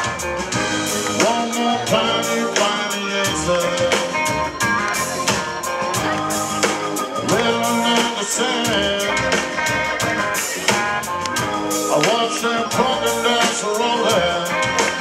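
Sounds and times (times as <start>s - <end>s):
blues-rock band playing: 0.0s - 15.0s.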